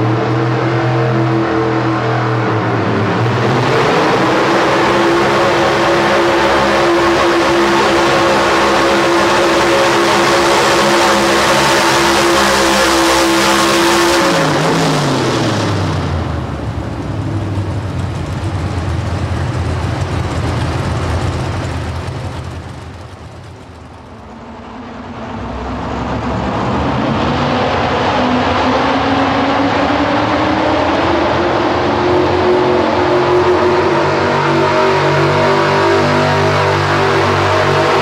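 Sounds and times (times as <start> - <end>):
second truck engine revving up: 0.0 - 38.0
truck engine at high revs: 0.0 - 38.0.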